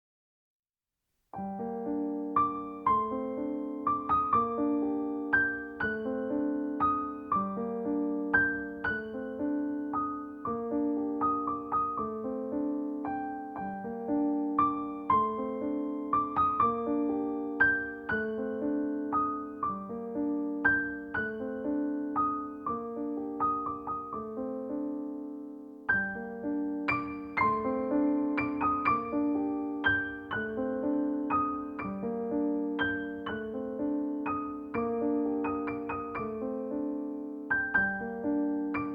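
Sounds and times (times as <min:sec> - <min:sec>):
gentle piano music: 0:01.3 - 0:38.9.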